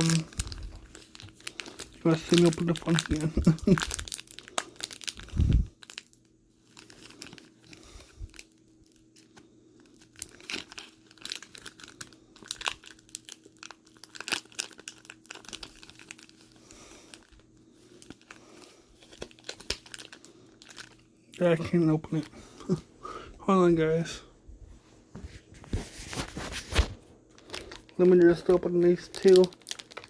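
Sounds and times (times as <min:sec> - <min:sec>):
foil wrapper crinkling: 0:00.0 - 0:21.5, 0:26.1 - 0:30.0.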